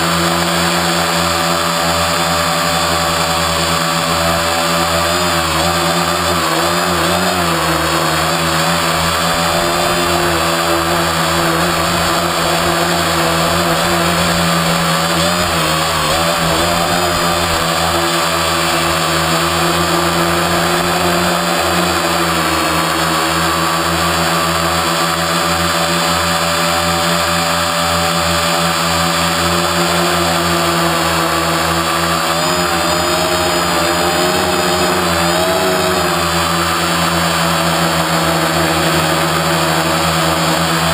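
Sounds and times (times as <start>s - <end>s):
drone motors buzzing whine: 0.0s - 40.9s.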